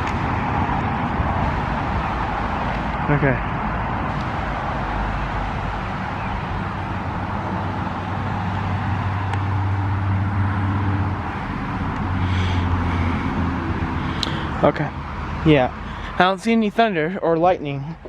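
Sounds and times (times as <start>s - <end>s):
vehicle engine running: 0.0s - 16.2s
outdoor background rush: 0.0s - 18.0s.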